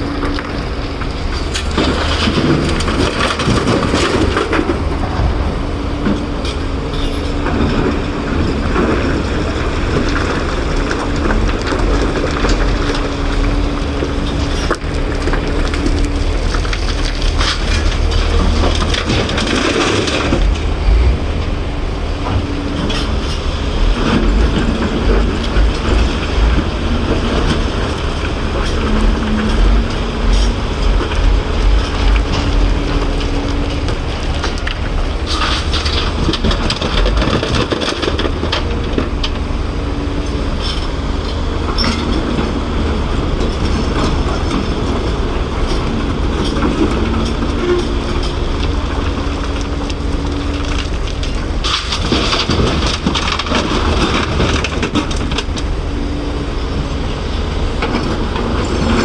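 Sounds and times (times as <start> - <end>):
excavator diesel engine running: 0.0 - 59.0
rock and dirt grinding in bucket: 0.0 - 59.0.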